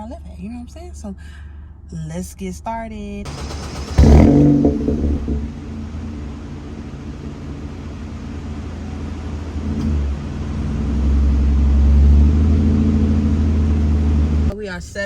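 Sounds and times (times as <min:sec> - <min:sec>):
car engine rumble from inside cabin: 0:00.0 - 0:15.0.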